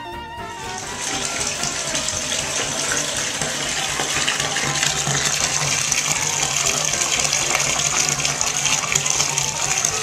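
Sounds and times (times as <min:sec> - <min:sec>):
water pouring from bathtub tap: 0:00.6 - 0:10.0.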